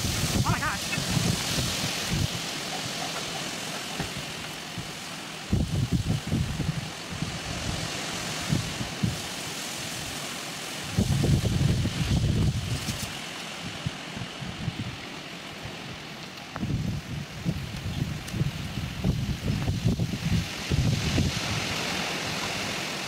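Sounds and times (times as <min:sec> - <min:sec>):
leaves rustling: 0:00.0 - 0:23.0
storm wind gusting through trees: 0:00.0 - 0:23.0
wind buffeting microphone: 0:00.0 - 0:23.0.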